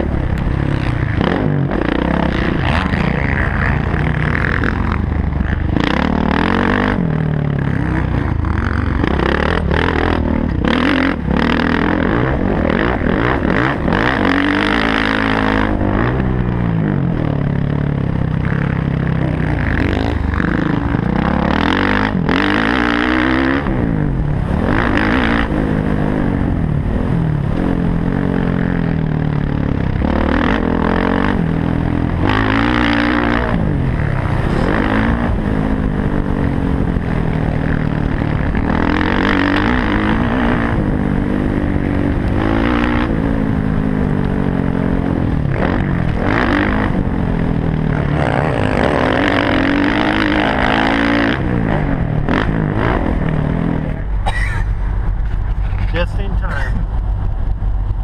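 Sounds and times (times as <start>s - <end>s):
dirt bike engine revving: 0.0s - 56.8s.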